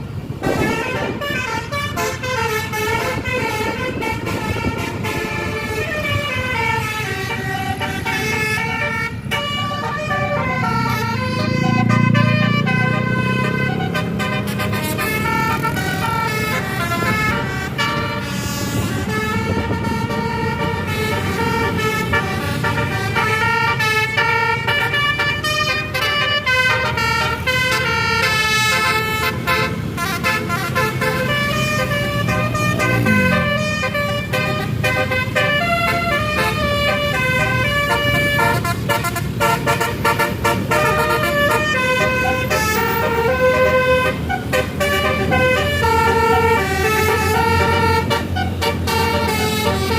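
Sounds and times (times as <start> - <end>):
bus musical horns melody: 0.0 - 49.9
low vehicle rumble: 0.0 - 49.9.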